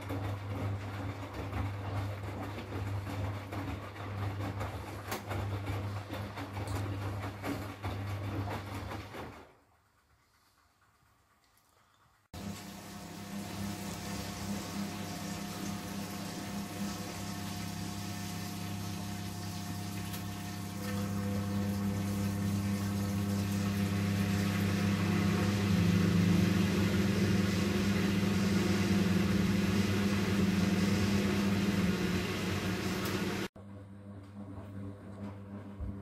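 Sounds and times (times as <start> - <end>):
washing machine pump hum: 0.0 - 11.4, 12.2 - 36.0.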